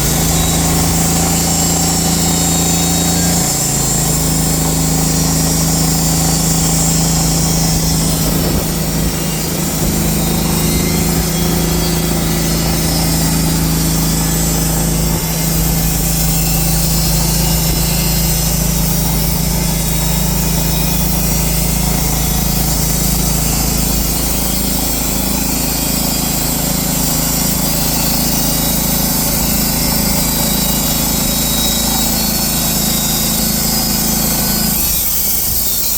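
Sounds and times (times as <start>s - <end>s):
sawmill cutting log: 0.0s - 35.9s.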